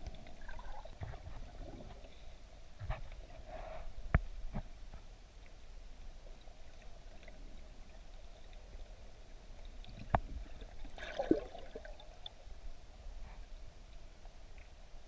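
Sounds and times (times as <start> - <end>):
underwater water wash: 0.0 - 15.0.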